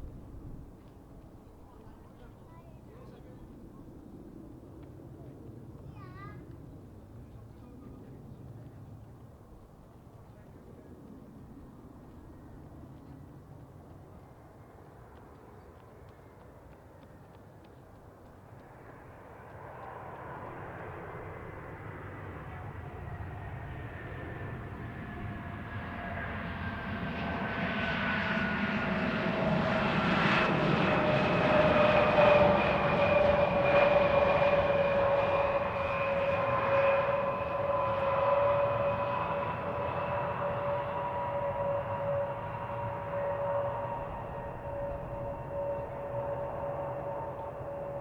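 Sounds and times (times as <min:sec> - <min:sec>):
jet plane on landing approach: 0:00.0 - 0:48.0.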